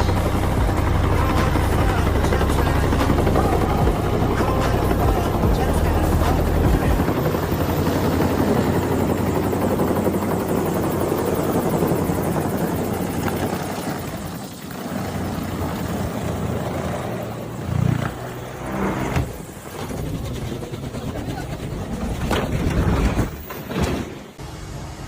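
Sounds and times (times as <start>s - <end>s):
helicopter rotor chopping: 0.0s - 23.5s.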